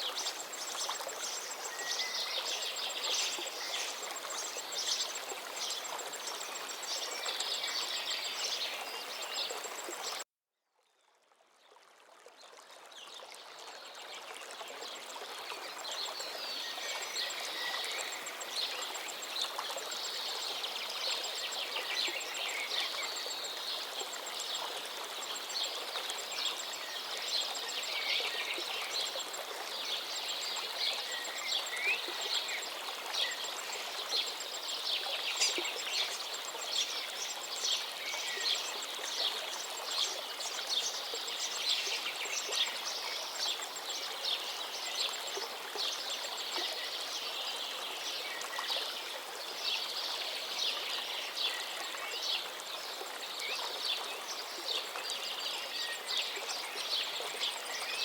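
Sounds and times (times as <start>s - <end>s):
flowing river: 0.0s - 10.2s, 10.8s - 58.0s.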